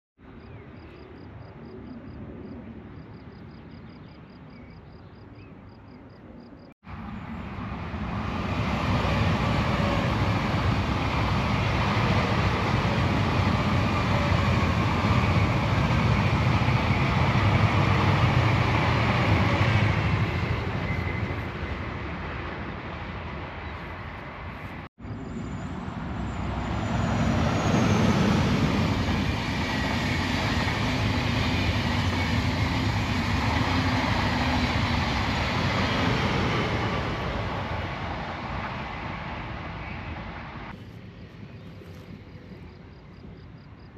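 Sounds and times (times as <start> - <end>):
electric train passing: 6.9 - 43.8.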